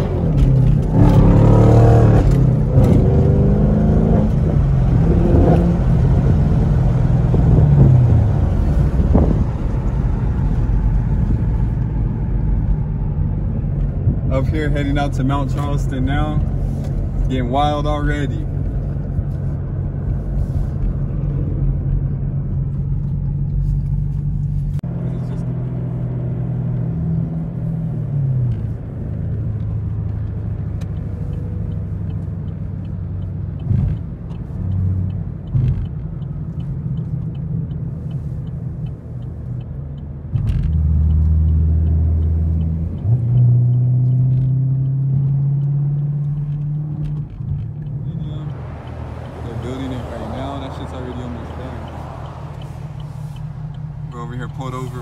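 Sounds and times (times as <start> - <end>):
car engine revving: 0.0 - 55.0
road noise: 0.0 - 55.0.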